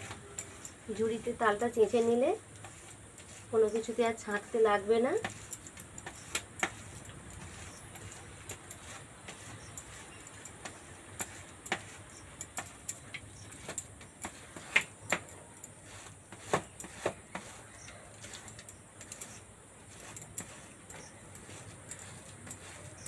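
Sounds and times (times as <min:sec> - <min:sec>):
fruit scraping on bamboo basket: 0:00.0 - 0:23.0.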